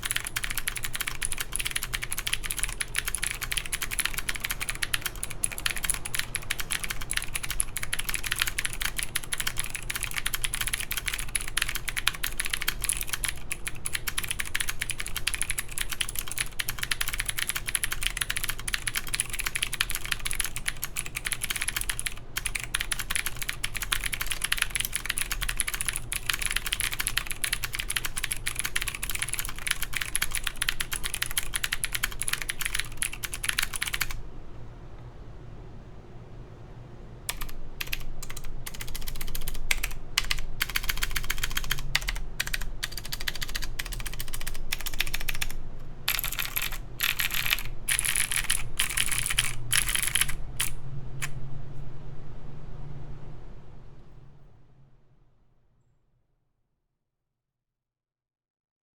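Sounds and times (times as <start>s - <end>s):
fast typing on mechanical keyboard: 0.0s - 34.2s, 37.3s - 51.4s.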